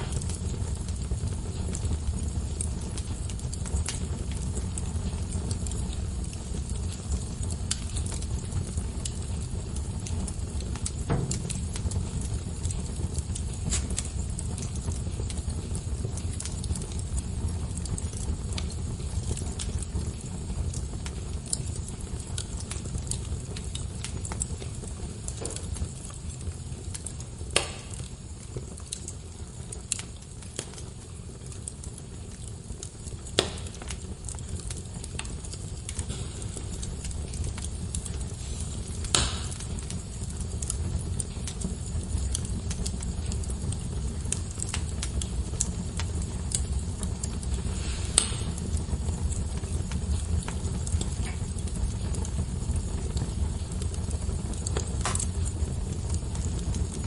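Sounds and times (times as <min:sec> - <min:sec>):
low rumble of flame: 0:00.0 - 0:57.0
wood fire crackling and popping: 0:00.0 - 0:57.0.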